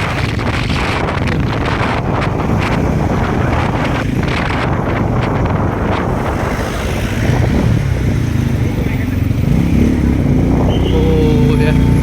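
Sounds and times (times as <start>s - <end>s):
motorcycle engine rumbling: 0.0s - 12.0s
wind buffeting microphone: 0.0s - 12.0s.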